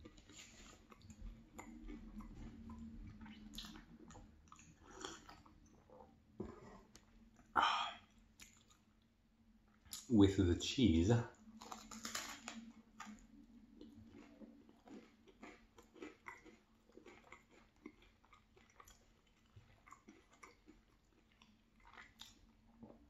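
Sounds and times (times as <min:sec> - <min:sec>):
faint close chewing: 0:00.0 - 0:09.1, 0:11.4 - 0:23.0.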